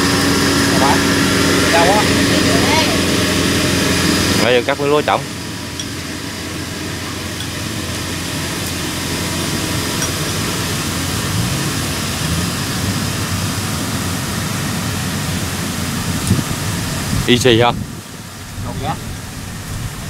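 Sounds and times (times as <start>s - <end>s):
combine harvester engine: 0.0s - 20.0s.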